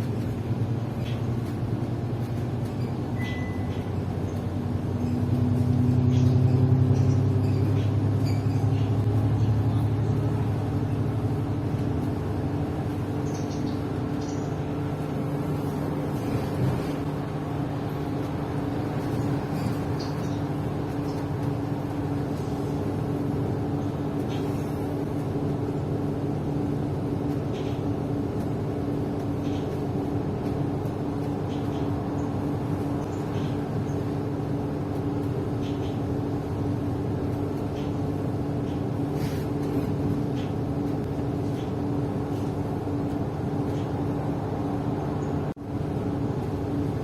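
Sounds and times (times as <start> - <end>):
bus engine drone inside cabin: 0.0 - 47.0.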